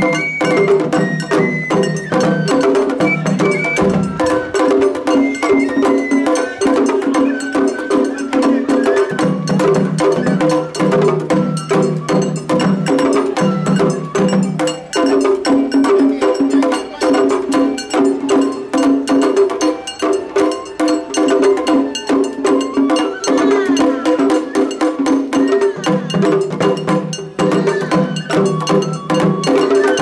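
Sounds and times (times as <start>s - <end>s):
fast percussion strikes: 0.0s - 30.0s
sustained melody: 0.0s - 30.0s.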